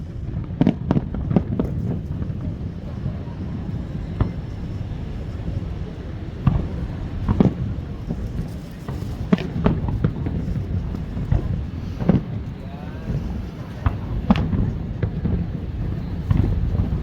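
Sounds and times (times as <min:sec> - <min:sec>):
fireworks bursting: 0:00.0 - 0:17.0
steady low rumble: 0:00.0 - 0:17.0.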